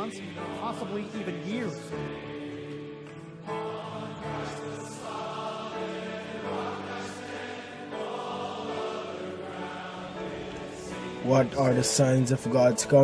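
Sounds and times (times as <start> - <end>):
choir singing sustained chords: 0.0 - 13.0.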